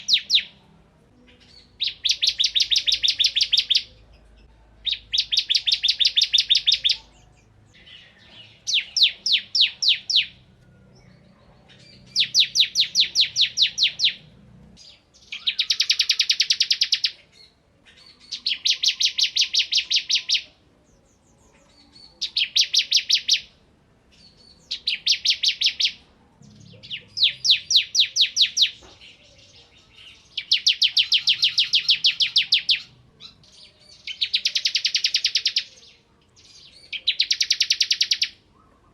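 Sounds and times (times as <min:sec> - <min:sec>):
bird singing high sharp chirps: 0:00.0 - 0:00.6, 0:01.4 - 0:04.0, 0:04.8 - 0:10.5, 0:11.8 - 0:20.5, 0:21.6 - 0:23.6, 0:24.2 - 0:28.9, 0:29.9 - 0:38.4.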